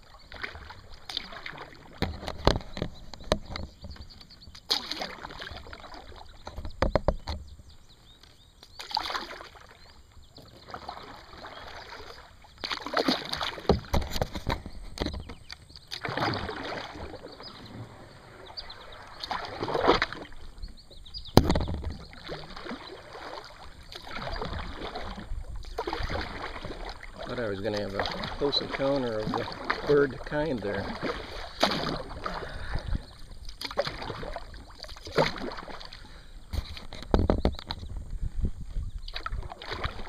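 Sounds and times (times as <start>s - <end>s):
kayak paddle strokes swishing water: 0.0s - 40.0s.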